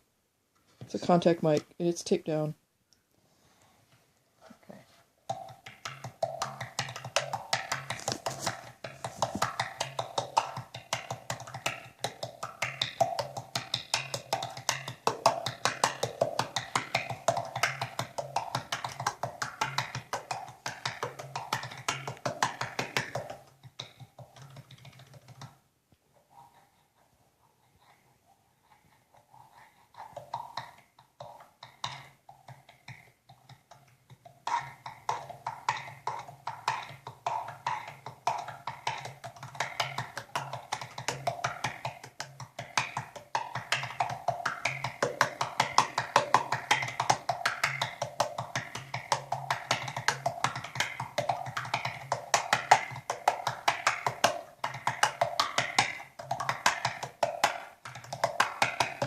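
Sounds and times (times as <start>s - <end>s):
tongue drum notes: 4.7s - 25.4s, 29.5s - 59.0s.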